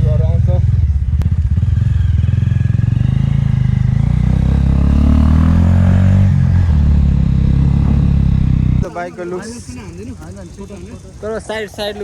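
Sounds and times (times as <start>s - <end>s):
motorcycle engine rising in pitch: 0.0s - 12.0s.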